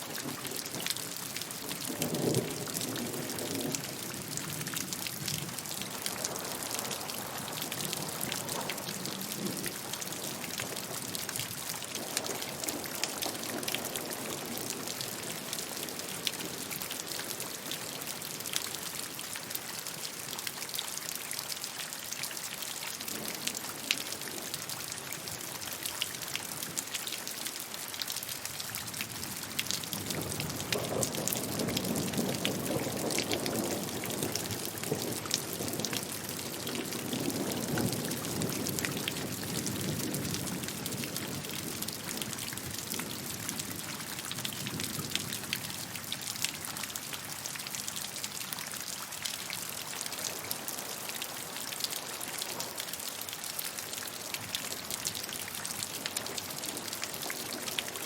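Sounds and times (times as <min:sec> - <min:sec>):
raindrops ticking on a surface: 0:00.0 - 0:58.0.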